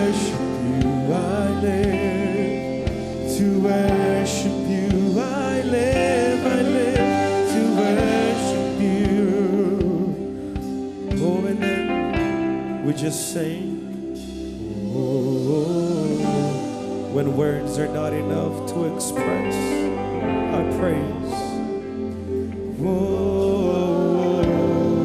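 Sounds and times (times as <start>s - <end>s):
person singing: 0.0s - 25.0s
worship band playing slow song: 0.0s - 25.0s.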